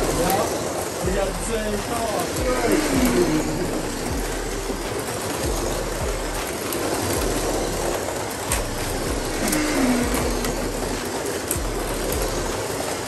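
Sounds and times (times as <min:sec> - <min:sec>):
slot car motors whirring: 0:00.0 - 0:13.0
slowing car motor whine: 0:00.0 - 0:13.0.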